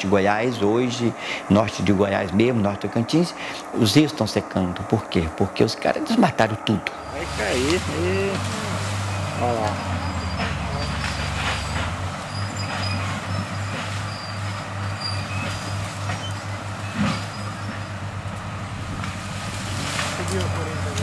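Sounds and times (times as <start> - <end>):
heavy machinery running: 0.0 - 21.0.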